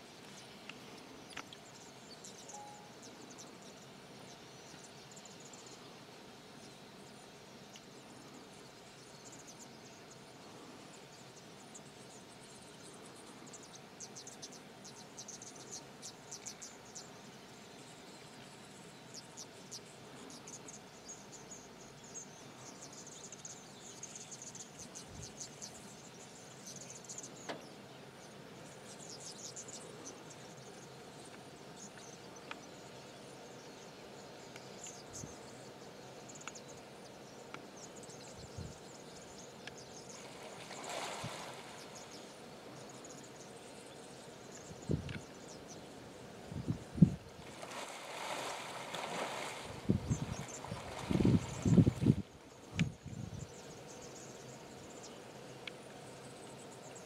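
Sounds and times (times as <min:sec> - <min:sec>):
insects chirping in trills: 0:00.0 - 0:57.0.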